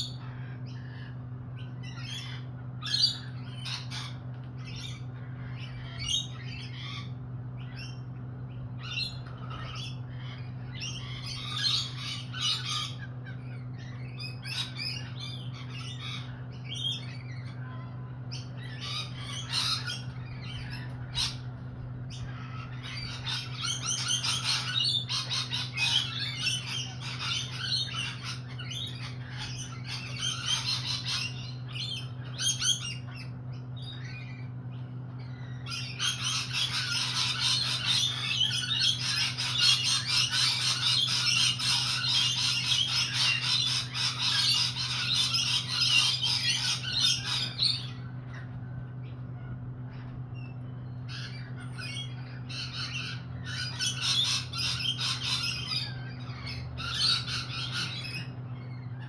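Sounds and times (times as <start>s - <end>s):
lorikeets chattering and calling: 0.0s - 59.0s.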